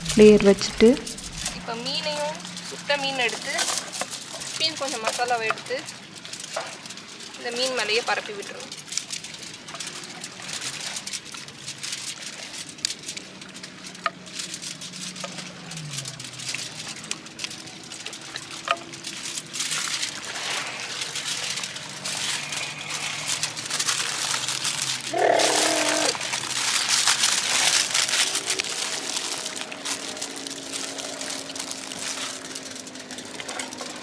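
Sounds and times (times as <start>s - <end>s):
leaf and foil rustling: 0.0s - 34.0s.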